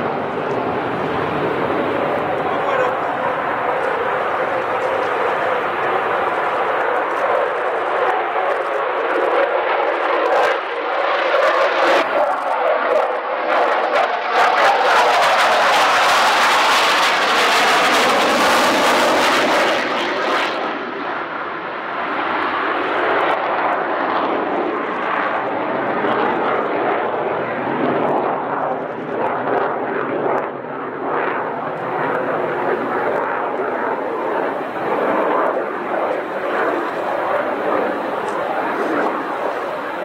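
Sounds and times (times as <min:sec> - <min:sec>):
jet passing overhead: 0:00.0 - 0:40.0.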